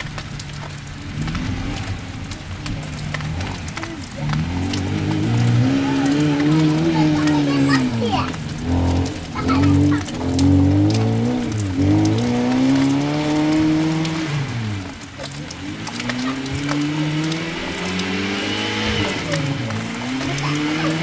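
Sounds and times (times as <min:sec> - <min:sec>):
rally car engine revving hard: 0:01.0 - 0:21.0.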